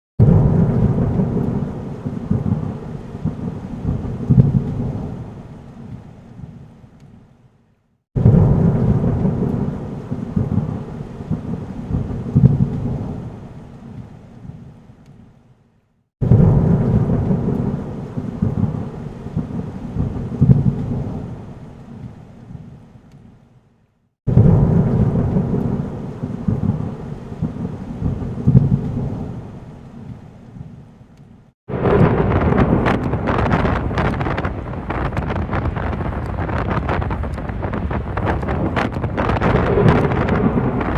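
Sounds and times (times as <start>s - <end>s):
thunder rumbling: 0.2s - 6.7s, 8.2s - 14.6s, 16.2s - 22.8s, 24.3s - 30.7s, 31.7s - 40.9s
rain: 0.2s - 40.9s.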